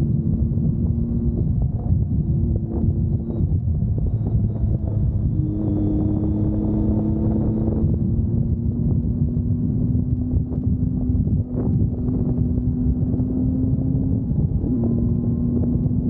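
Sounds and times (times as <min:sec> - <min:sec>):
vehicle engine humming: 0:00.0 - 0:16.0
wind noise on microphone: 0:00.0 - 0:16.0.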